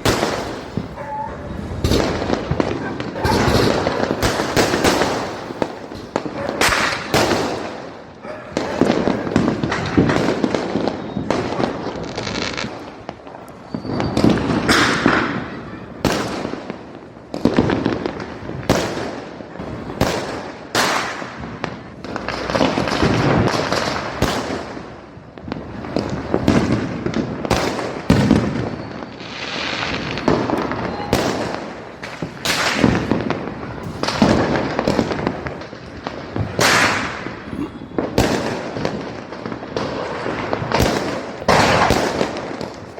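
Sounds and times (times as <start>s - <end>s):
continuous crackle: 0.0s - 16.1s, 20.8s - 42.9s
firecrackers bursting: 0.0s - 42.9s.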